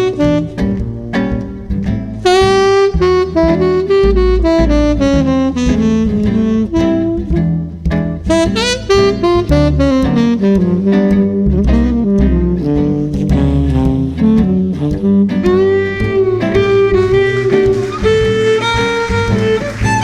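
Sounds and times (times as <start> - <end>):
bass line: 0.0 - 20.0
saxophone melody: 0.0 - 20.0.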